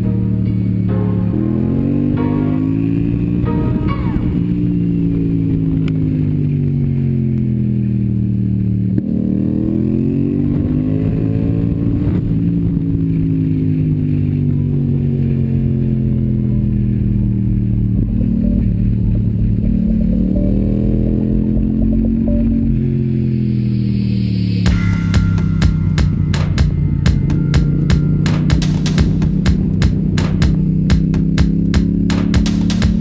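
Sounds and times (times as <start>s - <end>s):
motorcycle engine: 0.0s - 33.0s.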